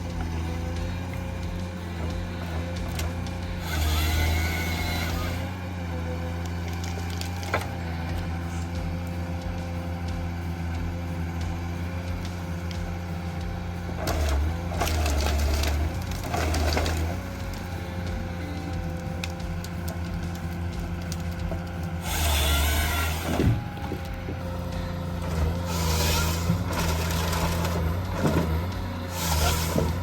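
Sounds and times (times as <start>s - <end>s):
heavy machine engine running: 0.0s - 30.0s
wood cracking and splintering: 0.0s - 30.0s.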